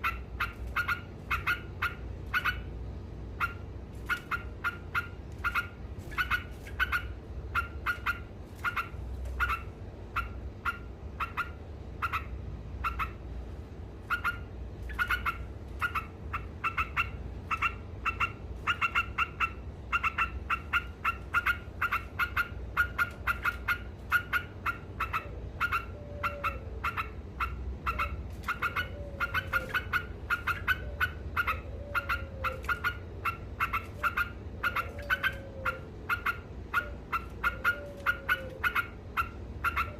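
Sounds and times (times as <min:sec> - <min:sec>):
bird chattering: 0:00.0 - 0:13.4, 0:14.0 - 0:39.9.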